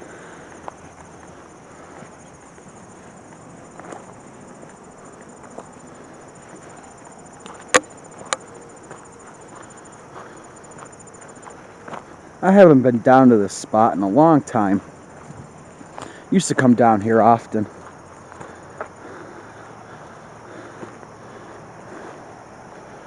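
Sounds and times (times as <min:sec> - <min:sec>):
footsteps on dirt trail: 0:00.0 - 0:13.4, 0:14.0 - 0:23.0
insect chorus: 0:00.0 - 0:23.0.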